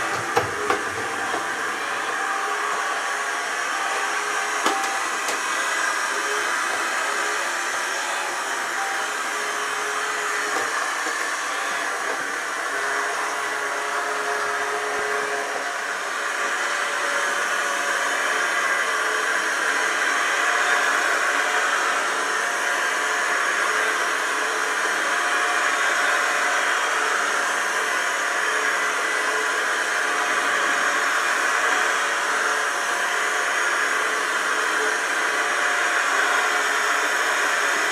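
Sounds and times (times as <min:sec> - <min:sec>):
robot vacuum cleaner motor whir: 0:00.0 - 0:37.9.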